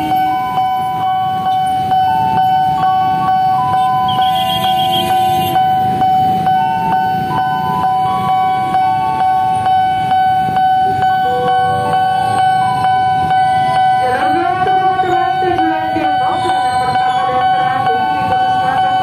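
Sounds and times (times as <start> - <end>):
electronic melody: 0.0 - 19.0.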